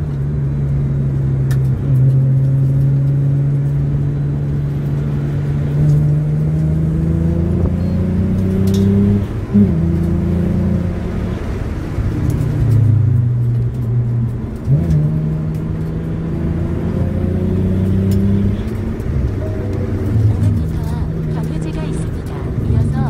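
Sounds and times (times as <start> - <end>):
car engine hum from inside cabin: 0.0 - 23.0.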